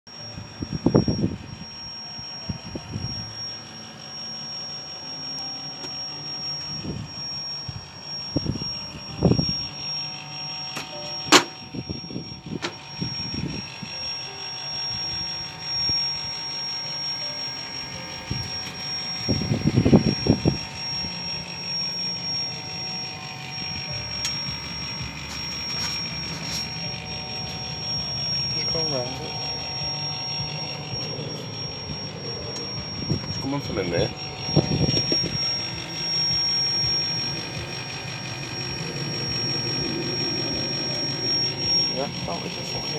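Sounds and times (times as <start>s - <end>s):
high-pitched whine: 0.1s - 42.9s.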